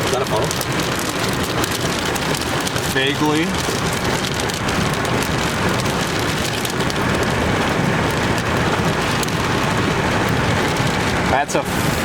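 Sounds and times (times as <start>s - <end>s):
rain on car roof: 0.0s - 12.0s.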